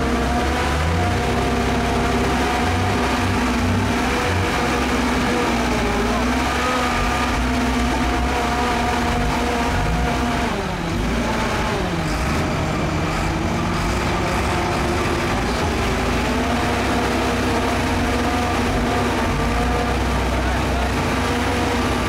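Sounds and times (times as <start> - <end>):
bulldozer diesel engines under load: 0.0 - 22.0.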